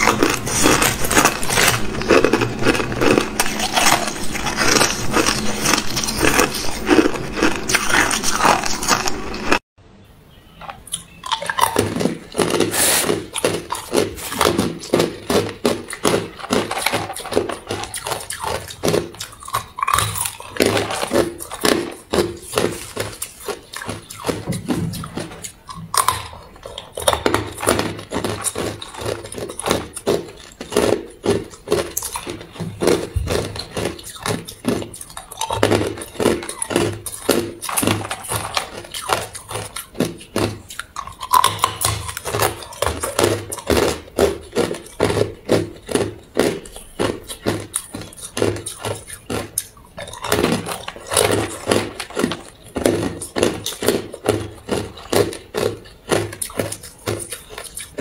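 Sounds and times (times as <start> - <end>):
ice crunching between teeth: 0.0 - 9.6, 10.8 - 58.0.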